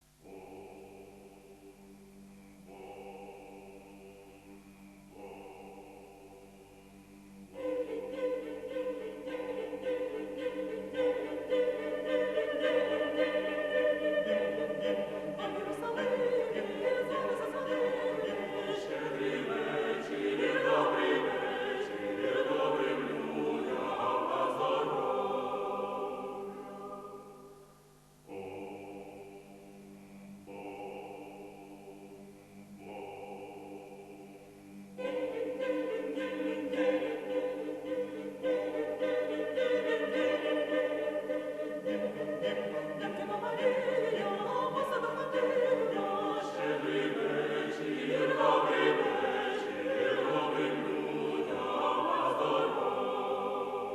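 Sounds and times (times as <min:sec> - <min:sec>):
vocal ensemble singing a carol: 0:00.0 - 0:53.9.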